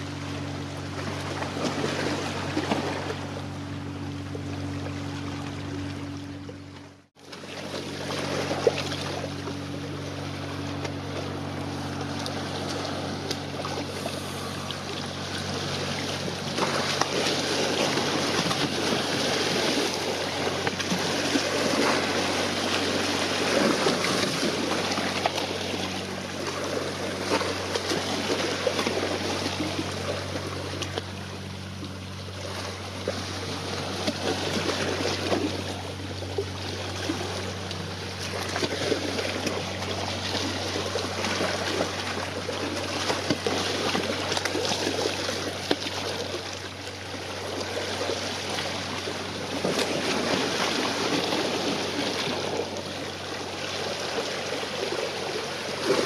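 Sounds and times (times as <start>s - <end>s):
choppy sea water: 0.0s - 56.0s
steady low hum: 0.0s - 56.0s.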